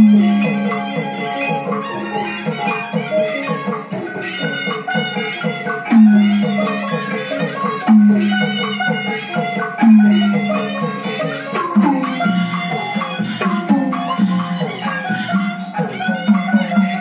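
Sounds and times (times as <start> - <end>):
pitched percussion notes: 0.0 - 17.0.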